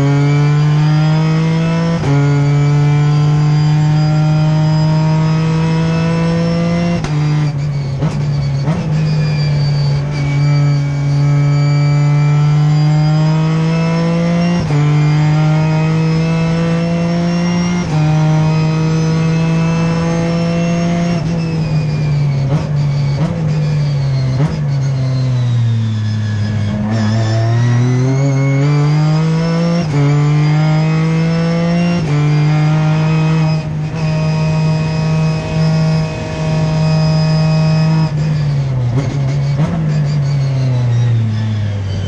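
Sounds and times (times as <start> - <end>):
race car engine accelerating: 0.0 - 42.0.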